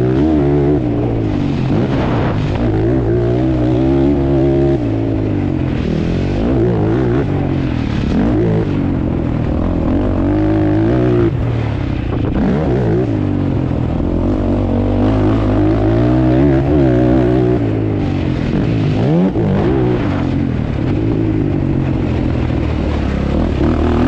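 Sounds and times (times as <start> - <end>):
atv engines revving: 0.0 - 24.0.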